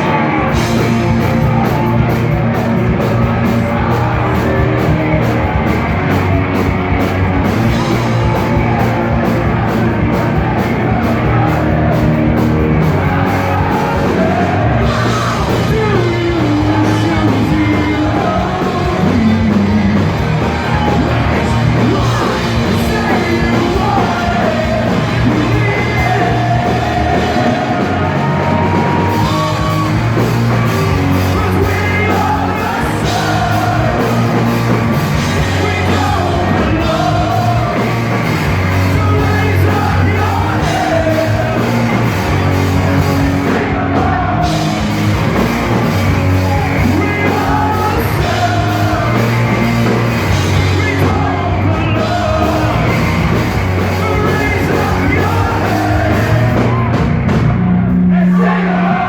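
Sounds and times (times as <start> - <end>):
bass guitar: 0.0 - 59.0
distorted guitars: 0.0 - 59.0
drums: 0.0 - 59.0
sung and shouted vocals: 0.0 - 59.0.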